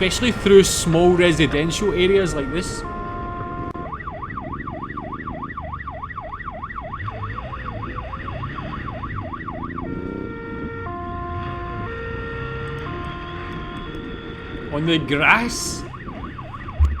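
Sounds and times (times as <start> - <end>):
police siren yelping: 0.0 - 17.0.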